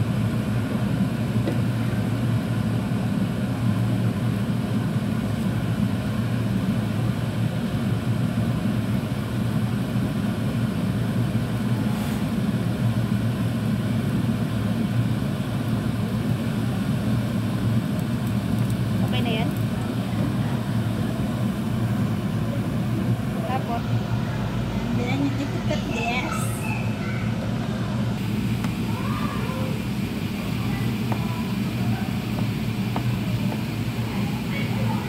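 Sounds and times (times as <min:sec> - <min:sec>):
low motor hum: 0:00.0 - 0:35.0.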